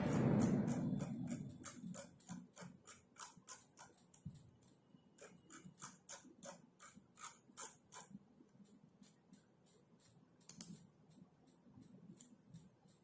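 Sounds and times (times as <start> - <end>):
typing on a computer keyboard: 0.0 - 13.0.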